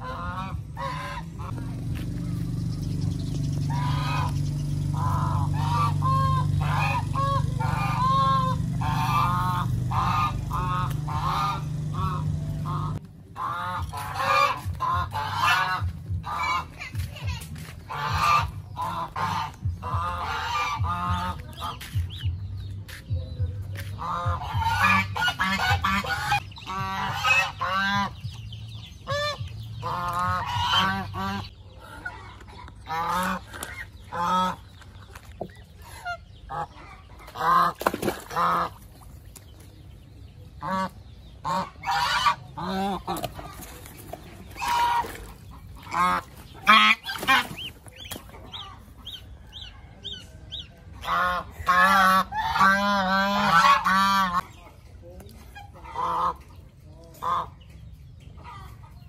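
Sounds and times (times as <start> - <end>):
geese honking: 0.0 - 22.4, 23.7 - 39.2, 40.5 - 54.7, 55.5 - 57.7.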